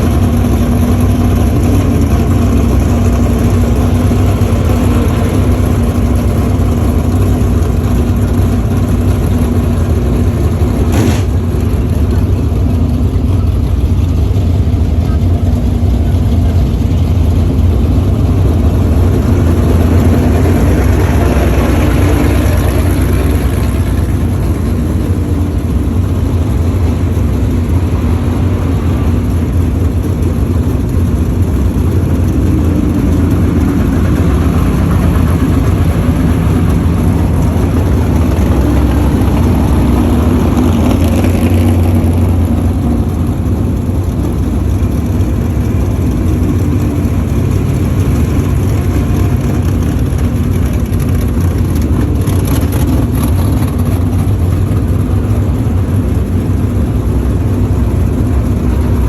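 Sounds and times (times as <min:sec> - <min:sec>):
race car engines running: 0:00.0 - 0:59.0.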